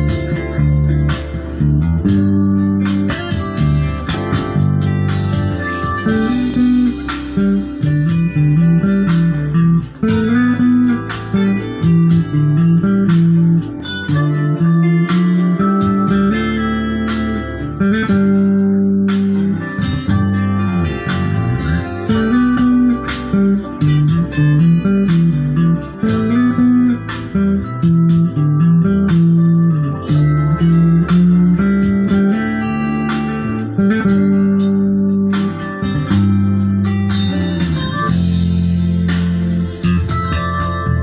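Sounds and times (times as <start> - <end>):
electric bass guitar line: 0.0 - 41.0.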